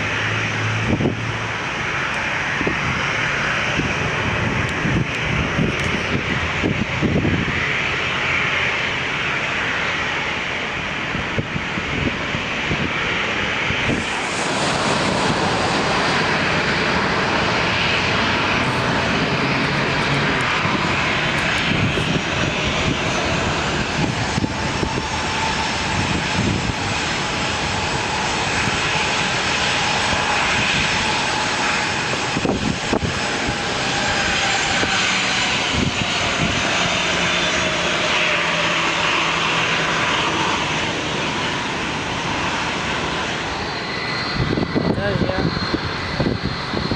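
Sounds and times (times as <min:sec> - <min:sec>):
jet airliner engines roaring: 0:00.0 - 0:46.9.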